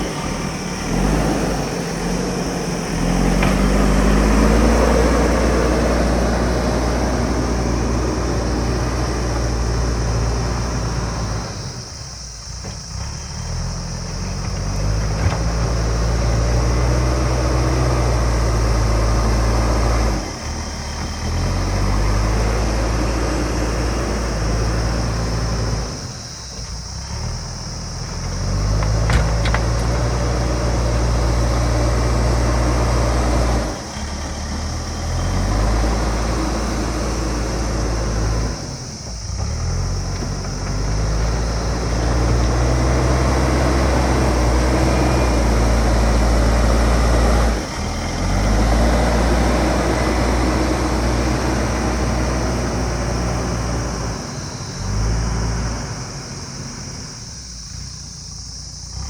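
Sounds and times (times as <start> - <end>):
diesel engine working under load: 0.0 - 59.0.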